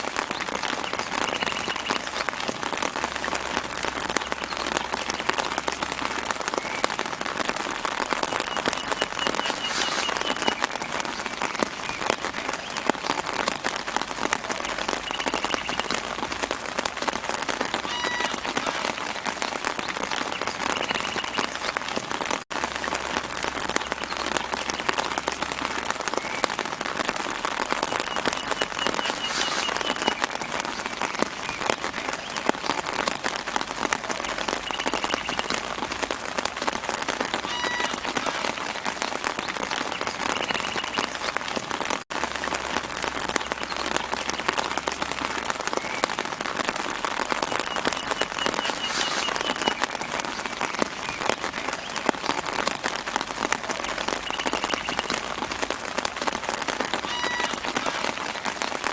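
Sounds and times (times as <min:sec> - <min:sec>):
light rain pattering on leaves: 0:00.0 - 0:58.9.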